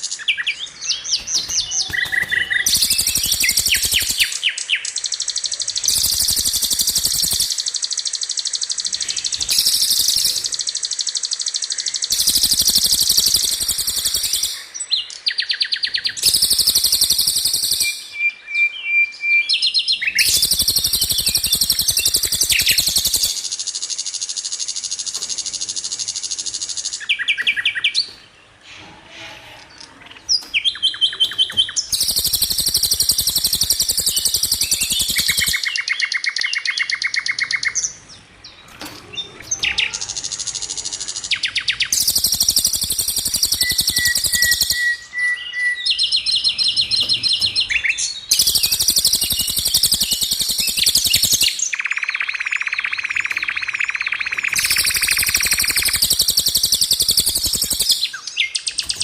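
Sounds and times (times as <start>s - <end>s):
songbird trilling: 0.0s - 28.3s, 29.7s - 37.9s, 39.1s - 59.0s
steady bird whistle: 0.0s - 37.9s, 39.6s - 59.0s.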